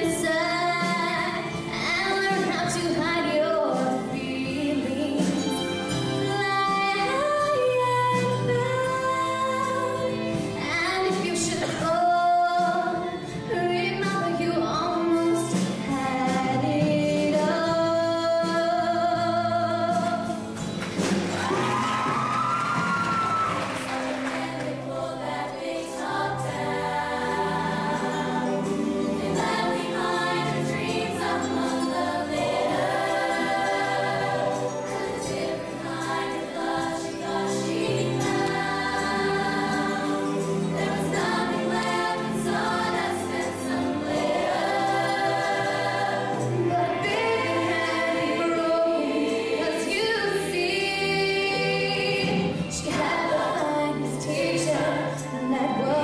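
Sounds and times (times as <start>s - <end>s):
choir singing a slow ballad: 0.0s - 20.7s, 23.3s - 56.0s.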